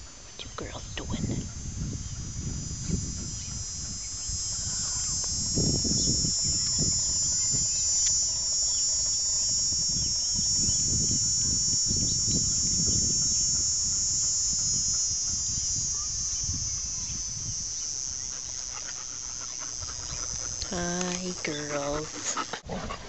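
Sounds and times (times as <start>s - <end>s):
high-pitched insect drone: 0.0s - 22.6s.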